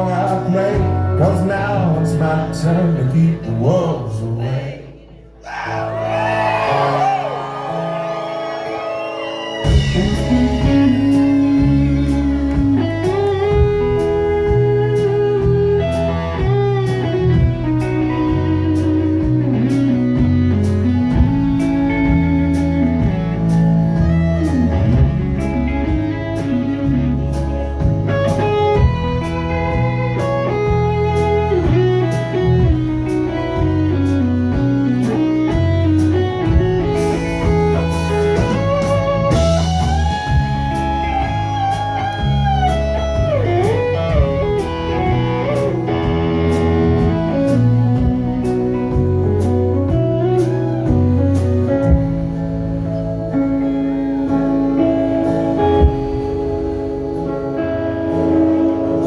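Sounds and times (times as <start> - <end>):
bass guitar: 0.0 - 59.0
electric guitar lead: 4.4 - 59.0
steady drum beat: 9.6 - 53.3, 54.0 - 59.0.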